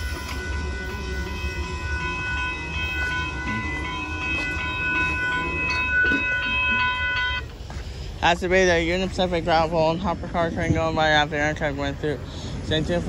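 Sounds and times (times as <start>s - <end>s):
crossing warning bell ringing: 0.0s - 13.0s
low rumble: 0.0s - 13.0s.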